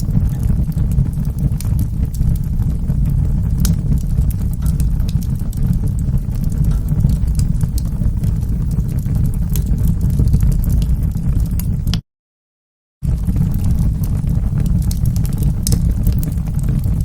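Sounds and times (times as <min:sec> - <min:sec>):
wood fire crackling: 0:00.0 - 0:12.0, 0:13.0 - 0:17.0.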